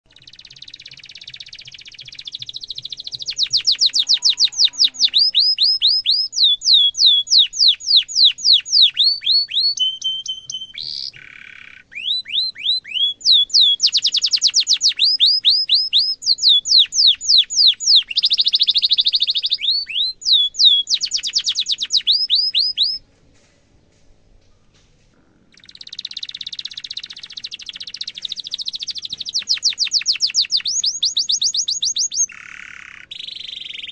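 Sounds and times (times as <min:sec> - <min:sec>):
canary singing: 0:00.1 - 0:23.0, 0:25.4 - 0:33.9.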